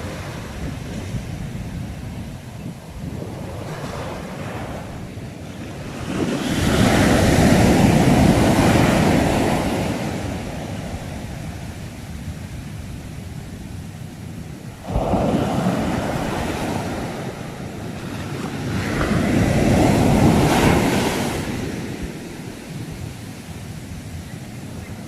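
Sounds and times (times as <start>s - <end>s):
sea waves washing ashore: 0.0s - 25.0s
wind rumble on microphone: 0.0s - 25.0s.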